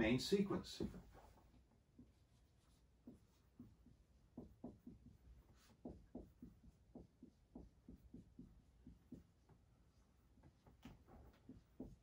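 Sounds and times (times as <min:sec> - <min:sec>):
marker strokes on a whiteboard: 0:00.8 - 0:12.0.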